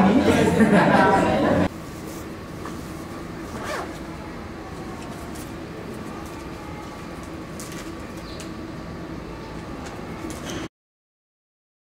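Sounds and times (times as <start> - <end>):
low hum and hiss: 0.0 - 10.6.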